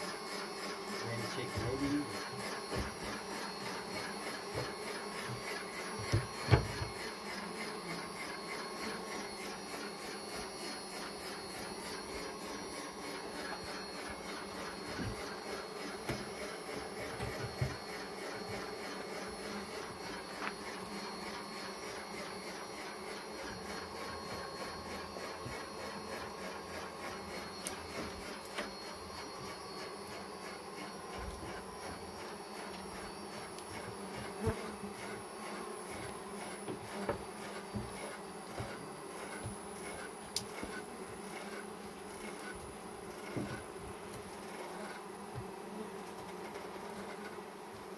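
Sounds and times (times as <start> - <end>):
honeybees buzzing: 0.0 - 47.9
fork scraping honeycomb: 0.4 - 47.6.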